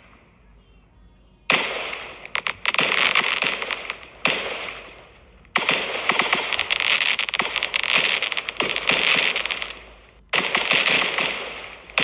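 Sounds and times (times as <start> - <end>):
fireworks crackling: 0.0 - 12.0
fireworks bangs: 1.4 - 12.0.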